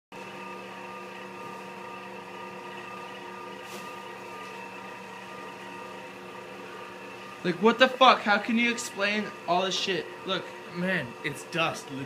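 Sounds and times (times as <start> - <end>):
steady mechanical hum: 0.2 - 12.0.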